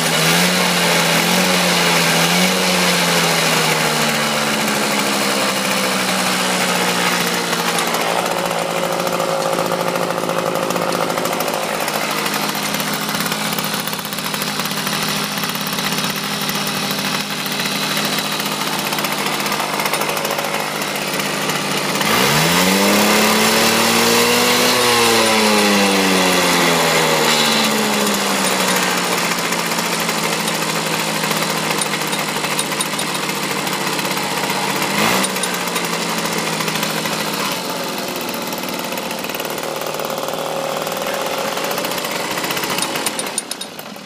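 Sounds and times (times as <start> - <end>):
moped two-stroke engine revving: 0.0 - 44.0.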